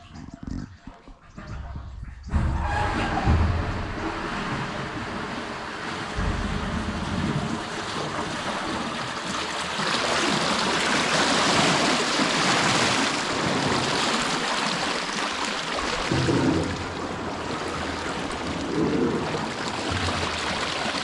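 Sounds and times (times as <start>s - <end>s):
water rushing from a pipe: 2.9s - 21.0s.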